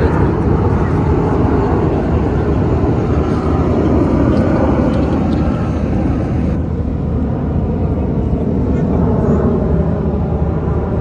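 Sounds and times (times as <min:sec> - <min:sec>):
jets flying overhead: 0:00.0 - 0:11.0.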